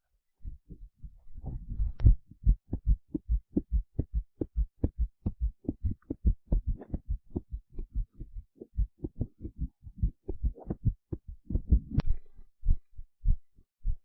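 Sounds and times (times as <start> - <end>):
heartbeat thumps: 0.4 - 14.0.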